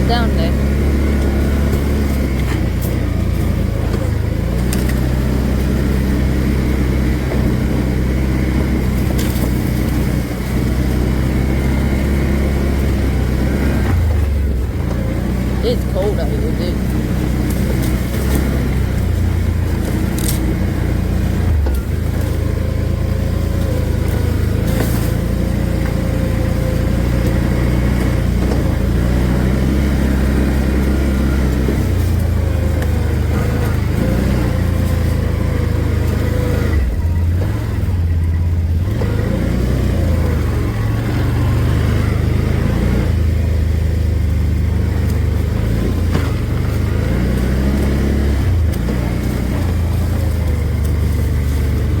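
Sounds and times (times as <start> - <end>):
small engine revving: 0.0 - 52.0.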